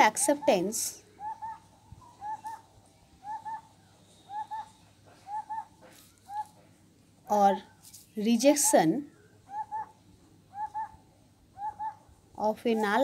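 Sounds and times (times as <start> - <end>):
bird calling paired notes: 0.0 - 6.6, 7.3 - 12.2.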